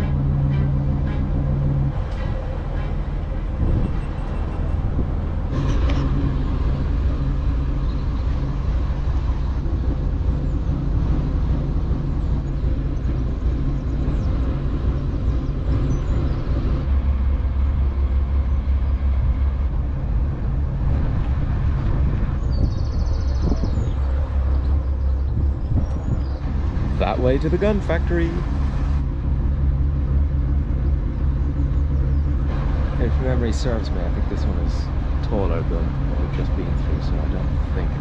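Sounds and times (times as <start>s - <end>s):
boat diesel engine humming: 0.0s - 38.0s.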